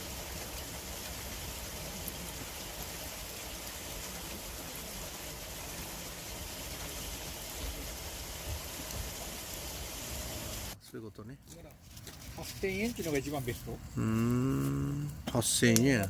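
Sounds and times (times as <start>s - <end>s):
fire popping: 0.0s - 10.8s, 11.4s - 16.0s
bonfire crackling and hissing: 0.0s - 16.0s.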